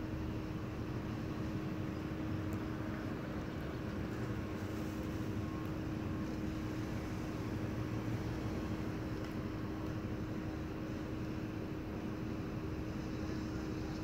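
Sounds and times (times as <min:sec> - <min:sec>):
fire engine idling: 0:00.3 - 0:14.0.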